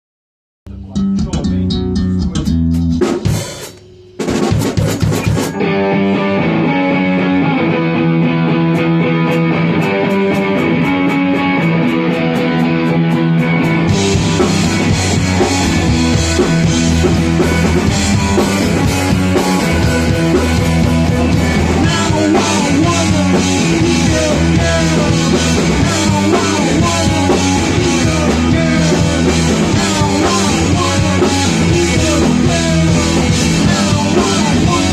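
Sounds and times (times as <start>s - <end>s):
drum kit playing: 0.7s - 34.9s
electric guitar riff: 0.7s - 34.9s.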